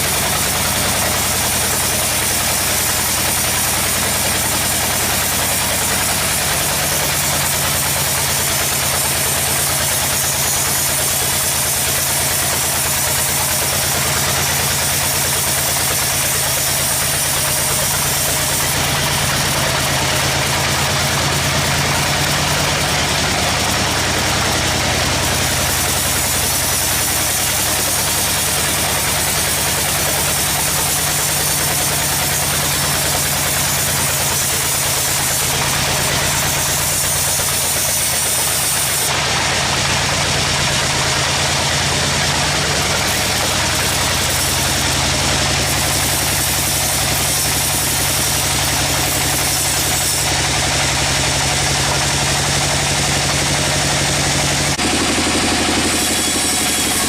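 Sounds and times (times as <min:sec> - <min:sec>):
sawmill engine drone: 0:00.0 - 0:57.0.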